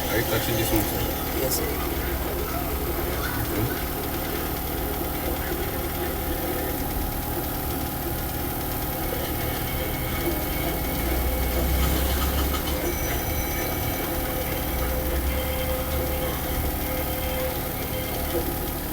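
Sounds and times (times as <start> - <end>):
mechanical hum and rumble: 0.0 - 18.9.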